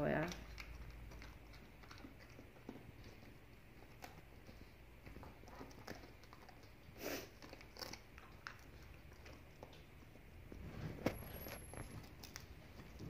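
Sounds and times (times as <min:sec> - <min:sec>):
dog chewing bread: 0:00.0 - 0:13.0.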